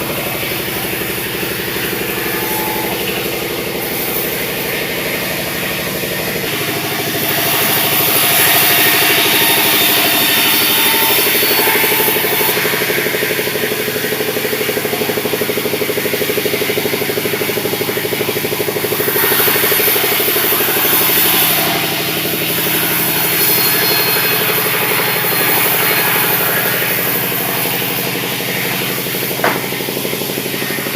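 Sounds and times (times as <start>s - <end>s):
sawmill engine running: 0.0s - 30.9s.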